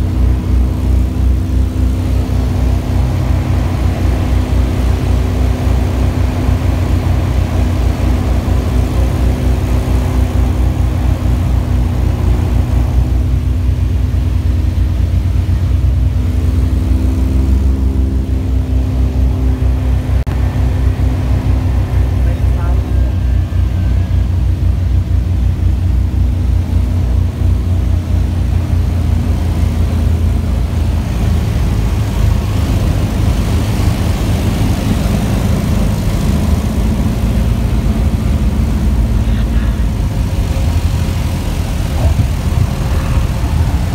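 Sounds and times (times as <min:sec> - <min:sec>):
plane rolling on runway rumble: 0:00.0 - 0:43.9
propeller plane engine droning: 0:00.0 - 0:43.9.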